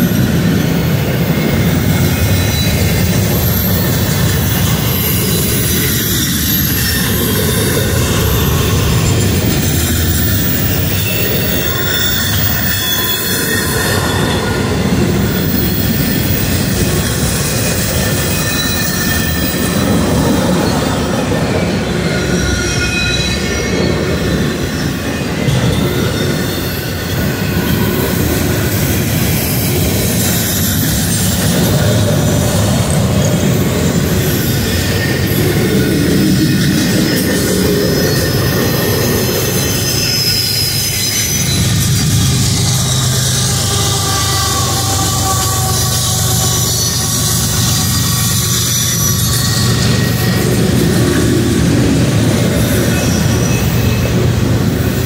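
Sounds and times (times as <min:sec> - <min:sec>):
train cars rumbling past: 0:00.0 - 0:55.0
wheels squealing: 0:00.0 - 0:55.0.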